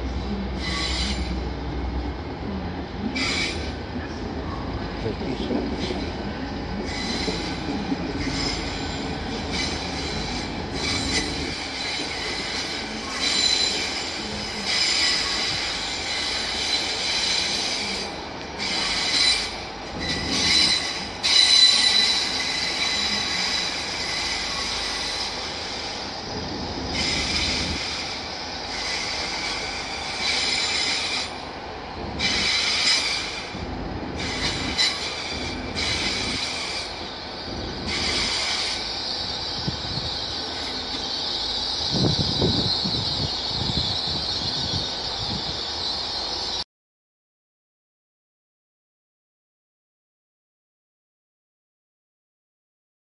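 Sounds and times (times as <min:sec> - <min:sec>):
train wheels squealing on rails: 0:00.0 - 0:02.2, 0:03.0 - 0:46.6
train rumble and hiss: 0:00.0 - 0:46.6.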